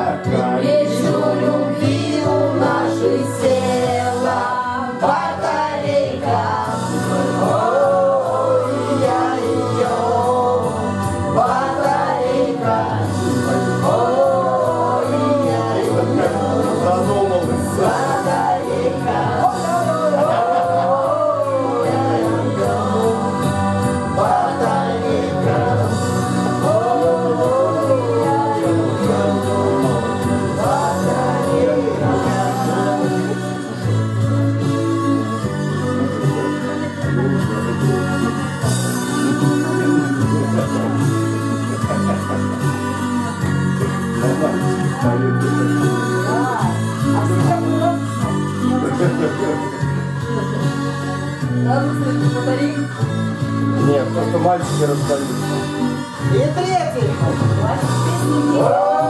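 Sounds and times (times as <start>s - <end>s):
pop-rock song with voices: 0.0s - 59.0s.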